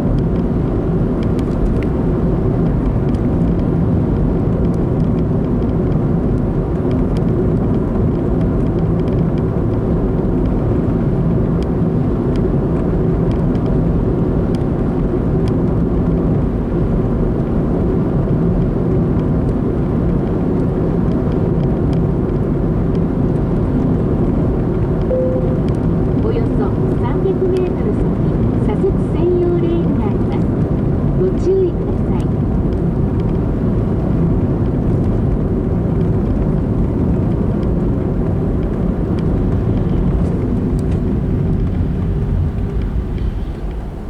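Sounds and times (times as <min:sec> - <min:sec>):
car interior road noise: 0:00.0 - 0:44.0.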